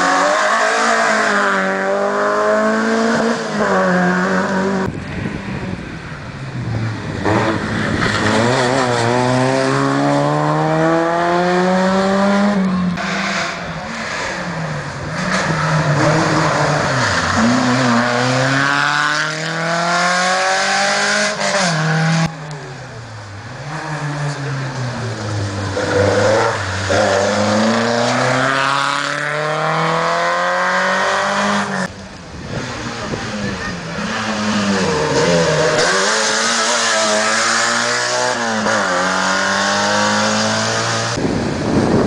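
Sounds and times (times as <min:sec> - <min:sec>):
rally car engine at full throttle: 0:00.0 - 0:42.0.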